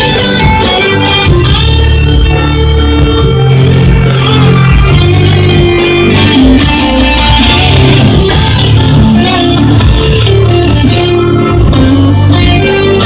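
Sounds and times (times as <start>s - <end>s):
electric guitar: 0.0s - 13.0s
live band playing: 0.0s - 13.0s
low bass line: 0.0s - 13.0s.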